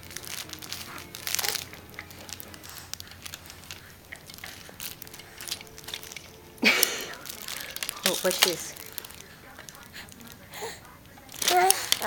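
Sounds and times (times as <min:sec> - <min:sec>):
toy crinkling and rustling: 0:00.0 - 0:12.0.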